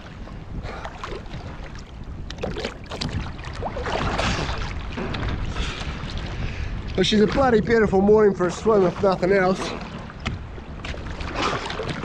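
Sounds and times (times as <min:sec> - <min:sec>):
water splashing from swimming: 0:00.0 - 0:06.6, 0:08.6 - 0:12.0
wind rumble on microphone: 0:00.0 - 0:12.0.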